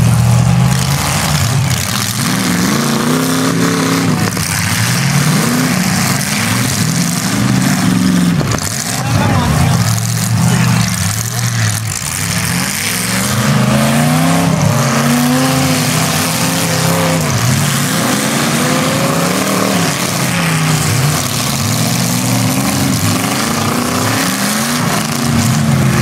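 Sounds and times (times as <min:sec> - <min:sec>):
car engines revving hard: 0:00.0 - 0:26.0.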